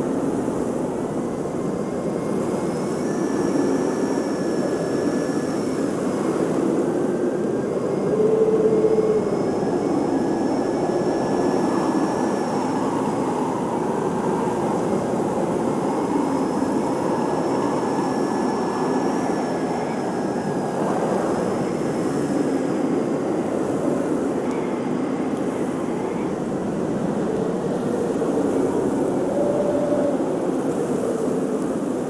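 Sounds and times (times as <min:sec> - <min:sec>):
blizzard wind blowing hard: 0:00.0 - 0:32.0.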